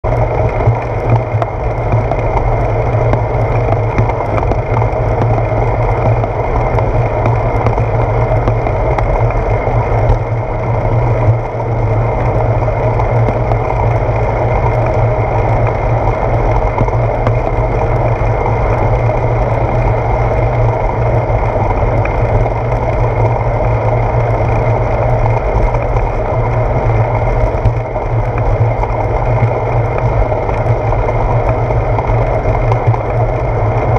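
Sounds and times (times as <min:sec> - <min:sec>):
road vibration: 0:00.0 - 0:33.9
wind noise on moving bicycle: 0:00.0 - 0:33.9.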